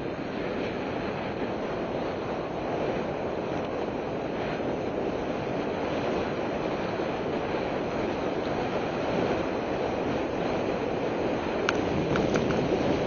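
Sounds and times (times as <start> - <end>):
wind buffeting microphone: 0.0 - 13.0
mountain bike riding on trail: 1.7 - 13.0.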